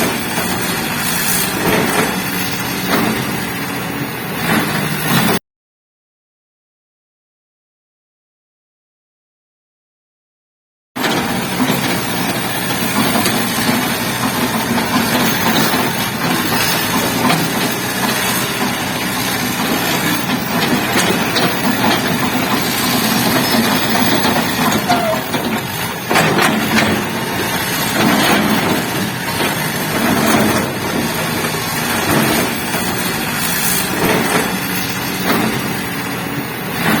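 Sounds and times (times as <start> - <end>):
excavator diesel engine running: 0.0 - 5.4, 11.0 - 37.0.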